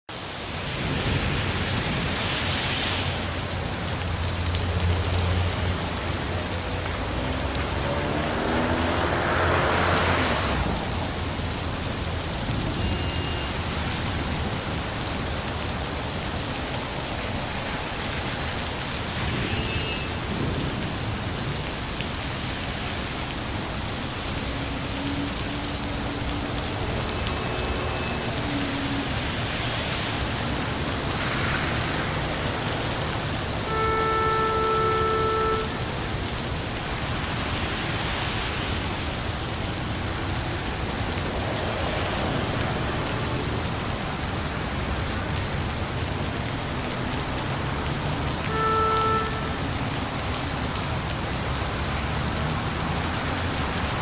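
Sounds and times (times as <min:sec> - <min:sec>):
steady rain falling: 0:00.1 - 0:54.0.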